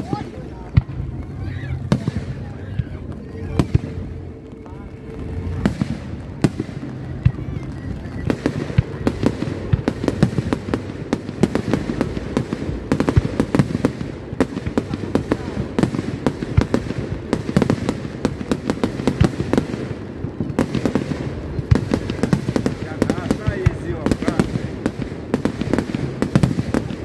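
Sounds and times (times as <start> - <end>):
fireworks bangs and pops: 0.0 - 27.0
fireworks bursting and crackling: 0.0 - 27.0.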